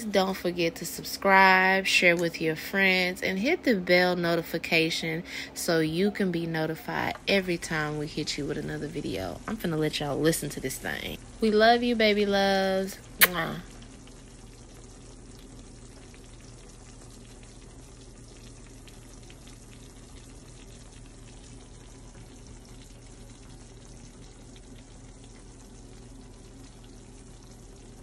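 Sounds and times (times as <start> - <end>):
casserole bubbling and sizzling: 0.0 - 28.0.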